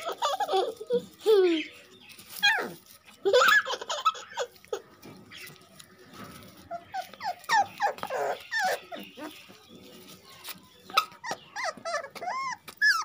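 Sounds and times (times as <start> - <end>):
puppies whimpering and yelping: 0.0 - 13.0.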